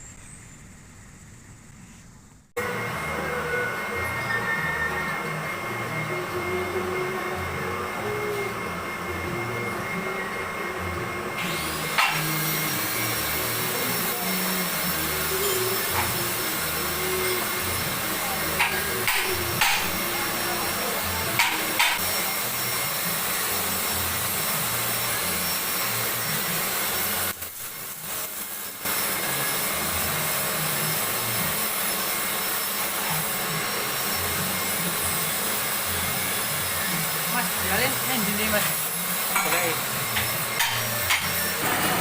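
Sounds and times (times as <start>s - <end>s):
workshop machine whirring: 0.0s - 42.0s.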